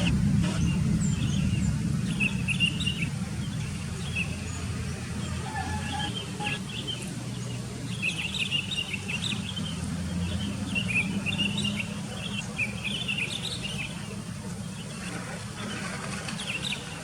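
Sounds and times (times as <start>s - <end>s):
birds chirping and calling: 0.0s - 17.0s
steady low hum: 0.0s - 17.0s.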